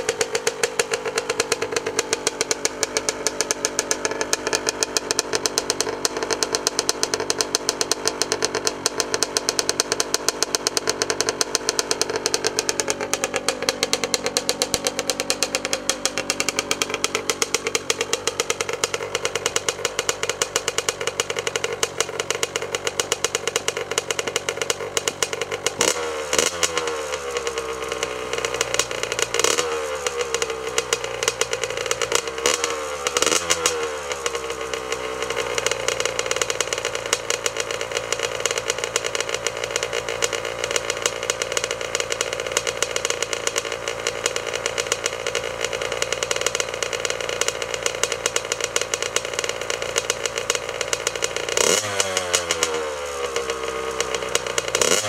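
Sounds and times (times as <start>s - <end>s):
motorcycle engine revving: 0.0s - 55.0s
two-stroke motorcycle idling: 0.0s - 55.0s.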